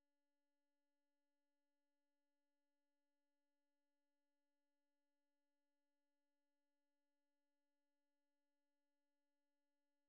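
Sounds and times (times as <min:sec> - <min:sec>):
faint steady tone: 0:00.0 - 0:10.0.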